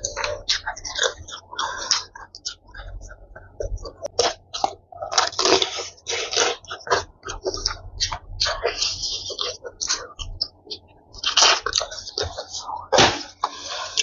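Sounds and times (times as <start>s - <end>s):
person chewing crispy chicken: 0.0s - 14.0s.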